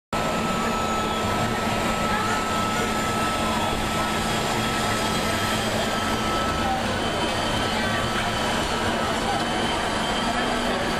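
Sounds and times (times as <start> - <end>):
thin high whine: 0.2 - 10.9.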